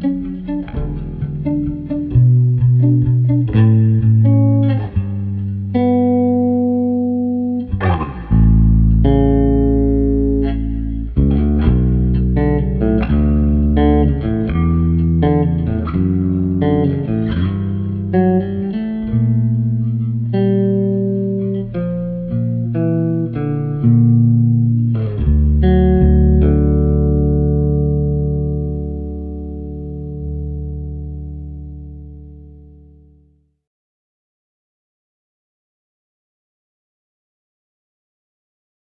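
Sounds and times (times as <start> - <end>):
electric bass played solo: 0.0 - 33.3.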